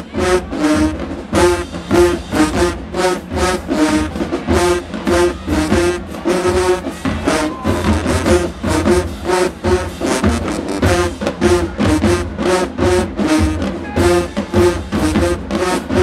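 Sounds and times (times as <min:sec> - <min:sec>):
brass band playing: 0:00.0 - 0:16.0
drums: 0:00.0 - 0:16.0.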